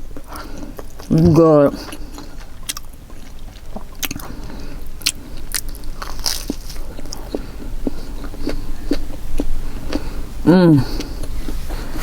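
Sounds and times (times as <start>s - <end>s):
crust crunching: 0.0s - 10.2s
chewing pizza: 0.0s - 12.0s.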